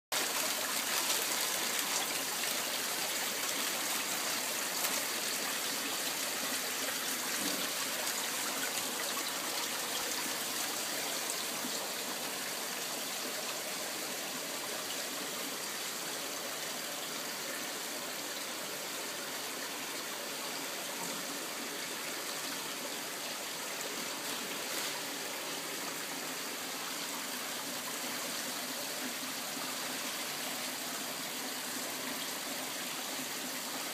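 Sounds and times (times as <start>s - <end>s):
water trickling into pond: 0.1s - 33.9s.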